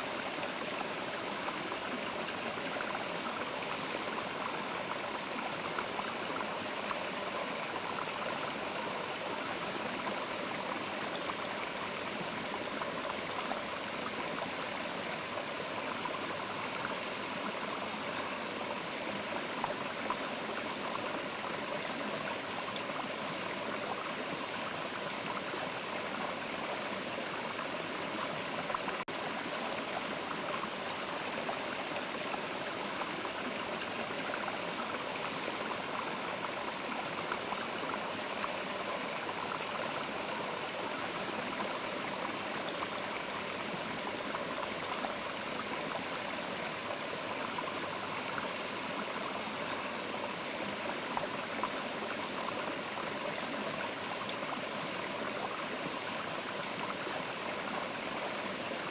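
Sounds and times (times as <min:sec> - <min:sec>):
river water rushing over stones: 0:00.0 - 0:58.9.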